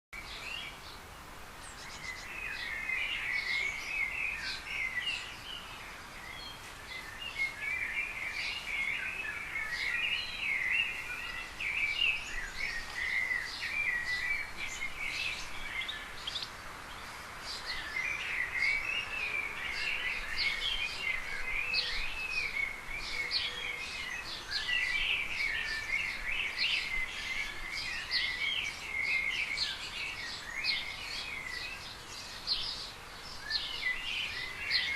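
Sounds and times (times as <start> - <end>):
small birds twittering: 0.2 - 34.9.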